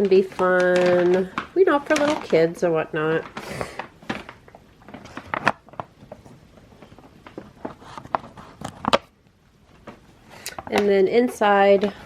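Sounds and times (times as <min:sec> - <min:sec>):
small clicks and rustles: 0:00.0 - 0:12.0.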